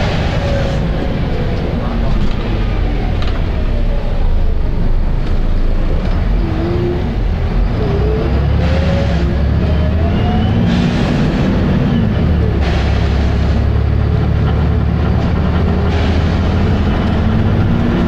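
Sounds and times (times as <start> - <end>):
bus diesel engine whine: 0.0 - 18.0.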